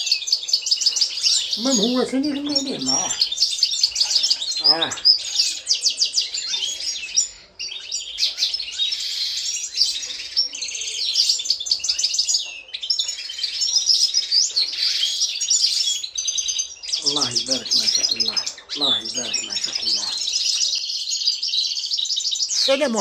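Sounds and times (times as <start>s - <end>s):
goldfinches twittering: 0.0s - 23.0s.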